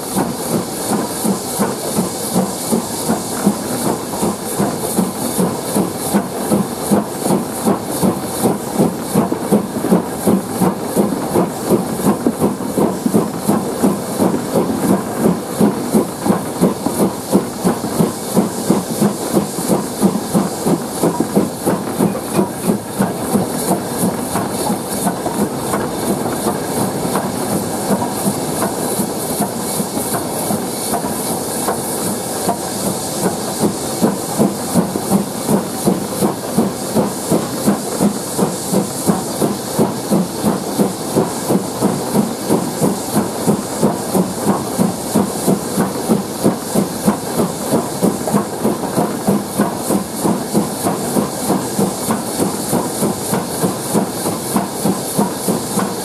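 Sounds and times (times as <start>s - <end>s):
steam engine exhaust beats: 0.0s - 56.0s
steam hissing: 0.0s - 56.0s.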